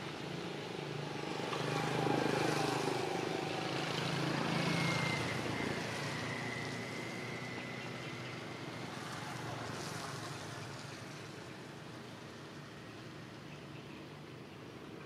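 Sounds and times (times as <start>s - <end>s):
passing engine hum: 0.1s - 13.4s.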